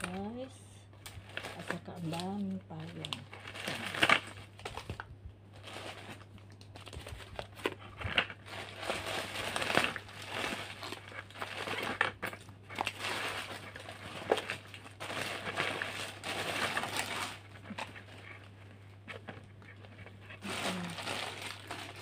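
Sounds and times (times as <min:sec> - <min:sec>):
plastic bags rustling and crinkling: 0:00.0 - 0:22.0
steady low hum: 0:00.0 - 0:22.0.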